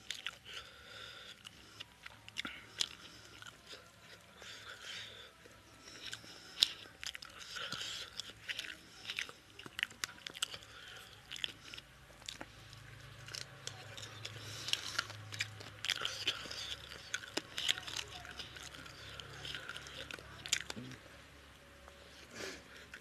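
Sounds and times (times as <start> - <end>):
wet chewing and lip-smacking: 0.0 - 21.0.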